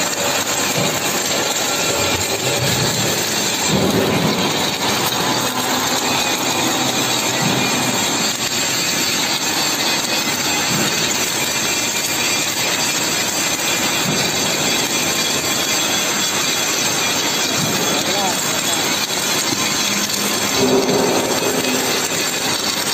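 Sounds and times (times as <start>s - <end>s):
welding machine running: 0.0s - 22.9s.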